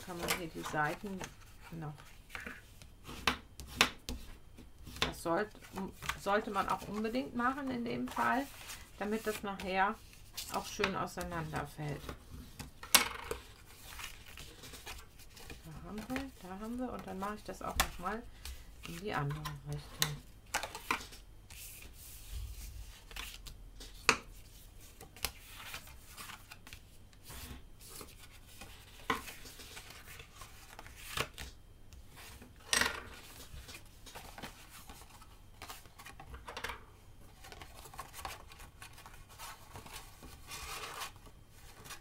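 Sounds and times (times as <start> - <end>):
cardstock rustling and scraping: 0.0 - 31.5, 32.1 - 42.0.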